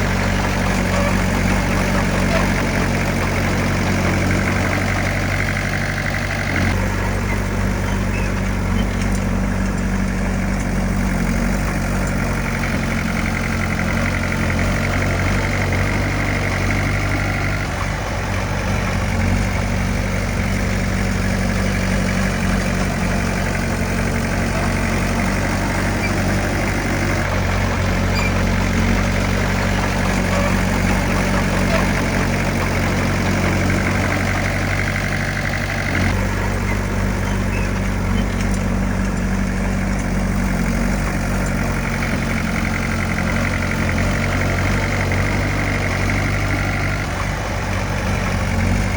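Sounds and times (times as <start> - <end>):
heavy machine engine humming: 0.0 - 48.9.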